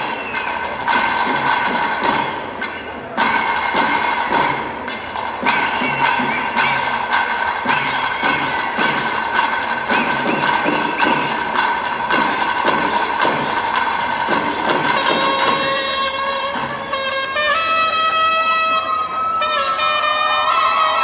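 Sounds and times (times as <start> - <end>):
drums beating steadily: 0.0 - 21.0.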